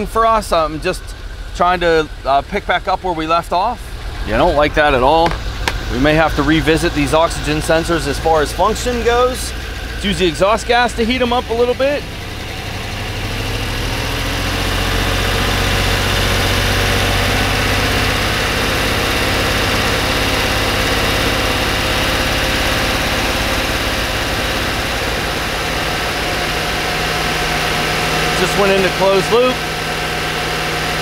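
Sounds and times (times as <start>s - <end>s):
car engine fast idle: 0.0s - 31.0s.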